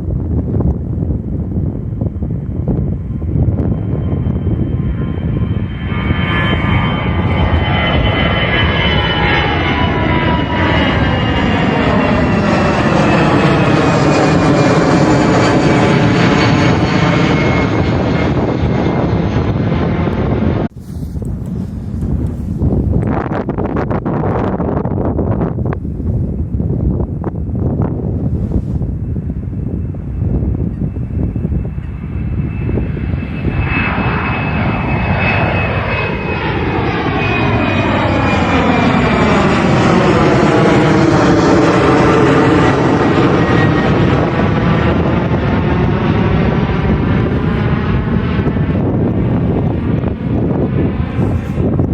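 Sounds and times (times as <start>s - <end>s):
jet engines roaring: 0.0s - 51.9s
wind buffeting microphone: 0.0s - 51.9s.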